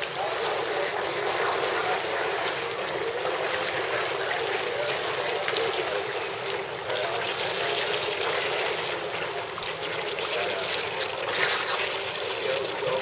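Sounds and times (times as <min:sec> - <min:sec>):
sharp splashes: 0:00.0 - 0:12.4
pool water splashing: 0:00.0 - 0:13.0.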